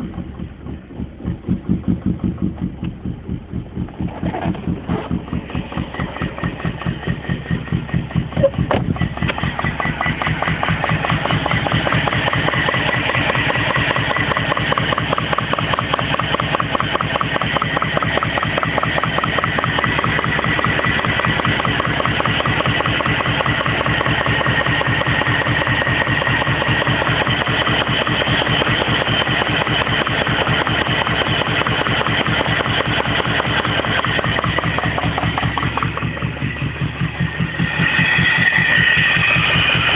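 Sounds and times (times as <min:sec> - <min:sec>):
car engine idling roughly: 0:00.0 - 0:39.9
engine knocking: 0:00.0 - 0:39.9.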